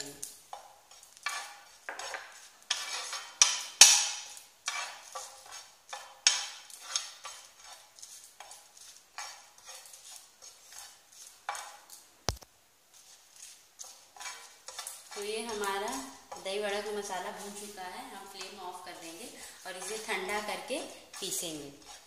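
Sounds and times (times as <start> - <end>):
metal spoon scraping griddle: 0.0 - 12.0, 12.9 - 22.0.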